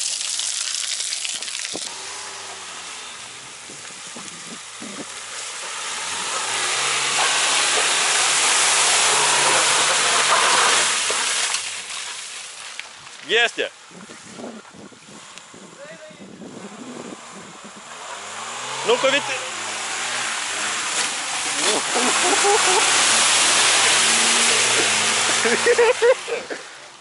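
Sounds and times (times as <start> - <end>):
tyres spinning in mud: 0.0 - 13.5, 17.4 - 26.9
car engine revving under load: 1.9 - 11.9, 13.8 - 26.7.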